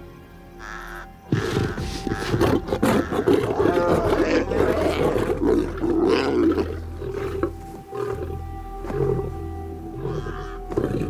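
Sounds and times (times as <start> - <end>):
lions snarling and roaring: 0.6 - 11.0.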